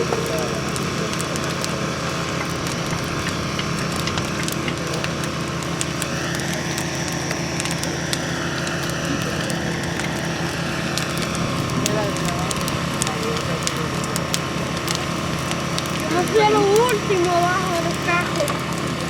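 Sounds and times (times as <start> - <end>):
bonfire crackling: 0.0 - 19.0.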